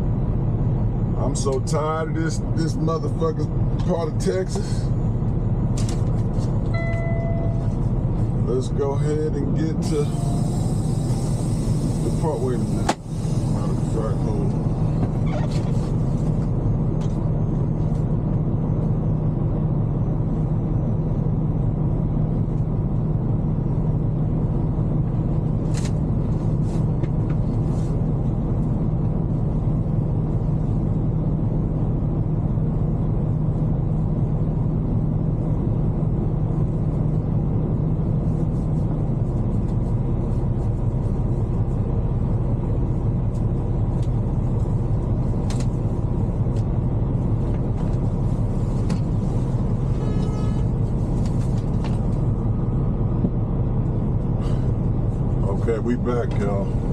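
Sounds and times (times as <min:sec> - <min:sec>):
diesel truck engine idling: 0:00.0 - 0:56.9.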